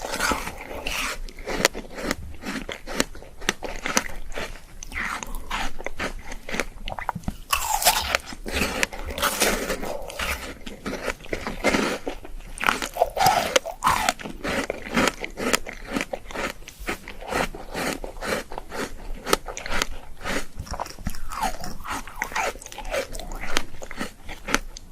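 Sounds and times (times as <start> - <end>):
ice being chewed: 0.0 - 24.9.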